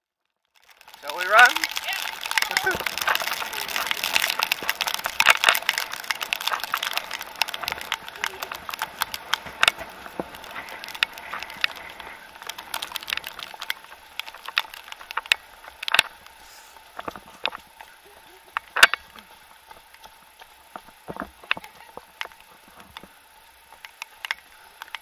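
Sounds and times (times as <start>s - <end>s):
rain hiss: 0.6s - 25.0s.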